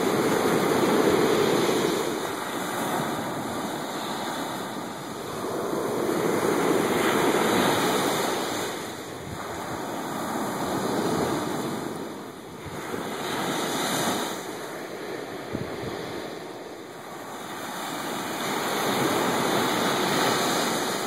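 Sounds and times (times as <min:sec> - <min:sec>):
surf washing up a beach: 0:00.0 - 0:21.0.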